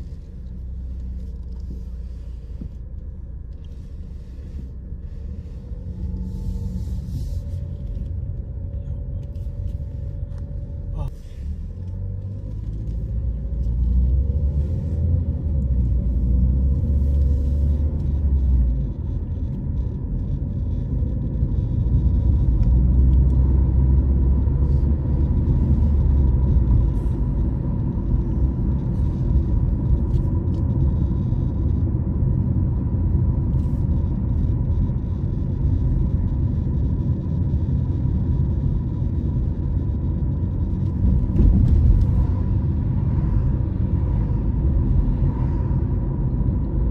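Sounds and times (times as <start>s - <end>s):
car engine rumble: 0.0s - 46.9s
road noise: 0.0s - 46.9s.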